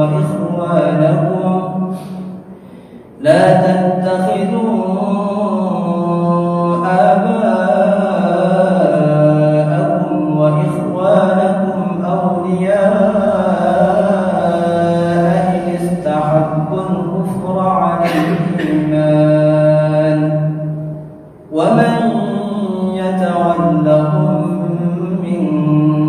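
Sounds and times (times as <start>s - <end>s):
person chanting into microphone: 0.0s - 2.5s, 3.1s - 26.0s.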